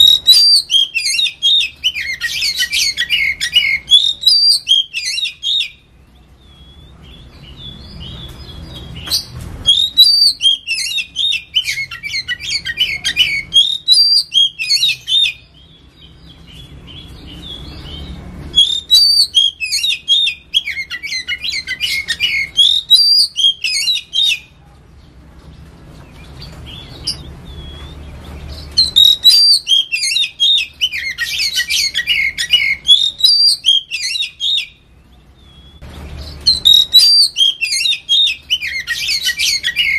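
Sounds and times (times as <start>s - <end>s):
bird singing rapid high notes: 0.0s - 24.6s, 26.2s - 39.9s.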